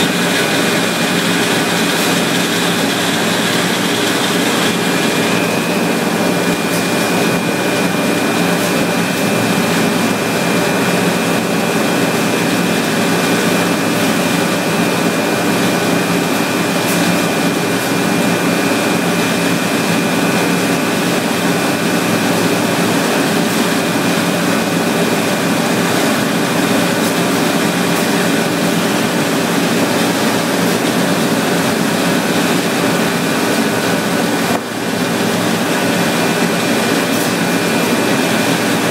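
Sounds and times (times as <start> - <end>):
industrial machine running: 0.0 - 38.9.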